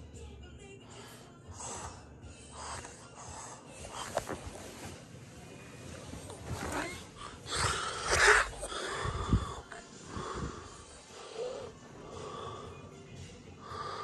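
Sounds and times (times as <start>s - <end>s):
faint room sounds: 0.0s - 14.0s.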